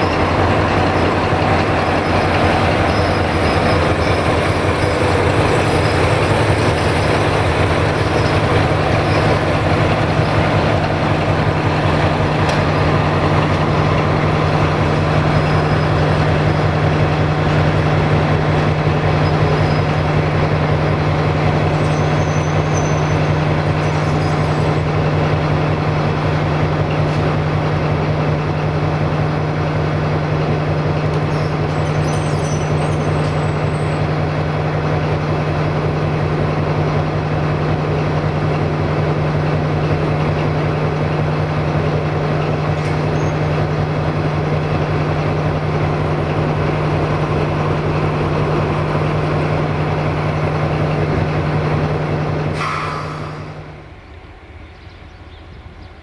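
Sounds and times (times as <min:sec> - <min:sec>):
locomotive diesel engine drone: 0:00.0 - 0:56.0.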